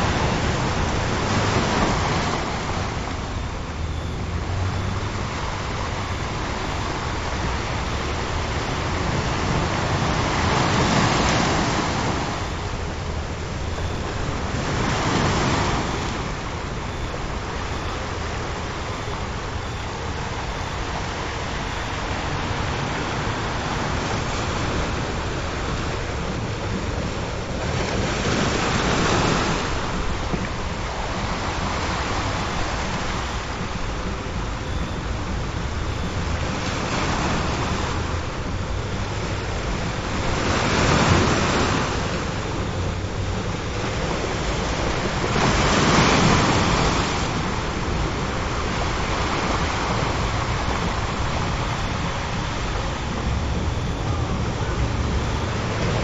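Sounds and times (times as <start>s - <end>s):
faint low humming tones: 0.0s - 56.0s
waves breaking and washing up: 0.0s - 56.0s.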